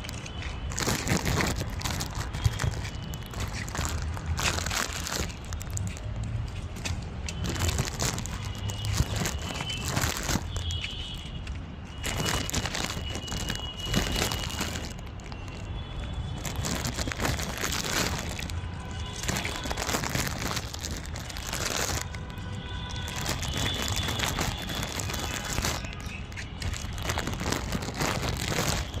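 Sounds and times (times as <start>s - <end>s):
puppies chewing and crunching: 0.0s - 6.0s, 6.8s - 10.6s, 12.0s - 15.2s, 16.4s - 18.5s, 19.1s - 22.2s, 23.0s - 29.0s.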